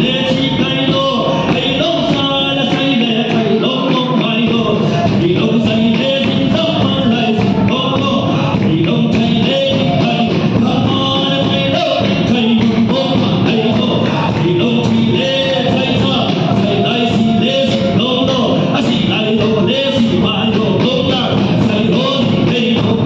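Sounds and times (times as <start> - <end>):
hymn singing: 0.0 - 23.0.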